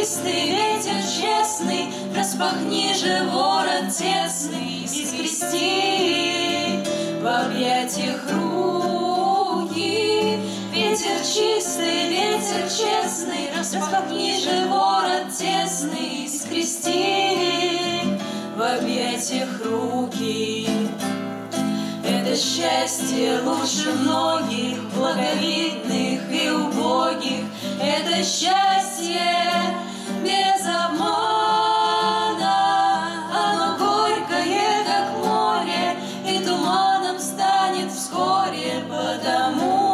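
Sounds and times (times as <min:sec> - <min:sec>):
acoustic guitar: 0:00.0 - 0:39.9
women singing in harmony: 0:00.0 - 0:39.9.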